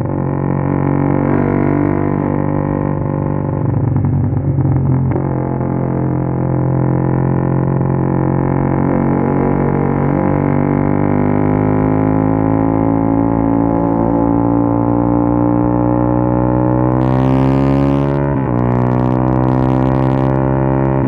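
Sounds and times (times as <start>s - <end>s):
motorcycle engine at high revs: 0.0s - 21.0s.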